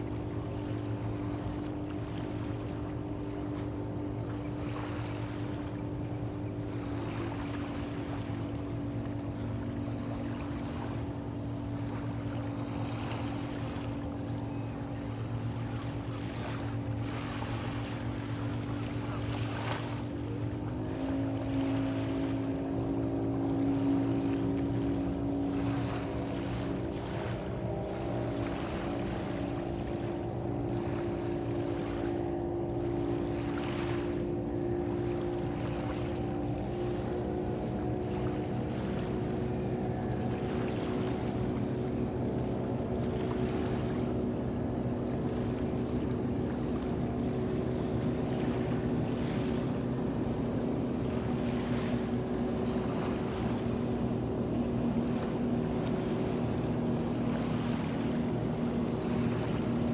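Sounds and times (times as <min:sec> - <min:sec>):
boat engine droning: 0:00.0 - 0:59.9
water noise: 0:00.0 - 0:59.9
wind: 0:00.0 - 0:59.9.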